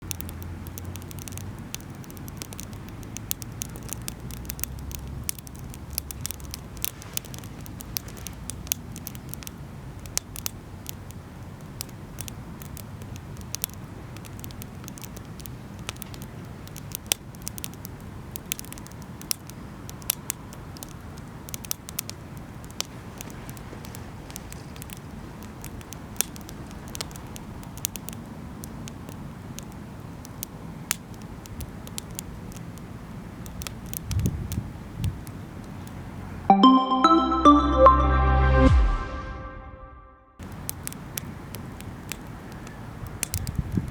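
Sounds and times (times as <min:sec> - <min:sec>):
sharp pops of fire: 0:00.0 - 0:36.0, 0:40.4 - 0:43.9
wood campfire crackling: 0:00.0 - 0:36.2, 0:40.4 - 0:43.9.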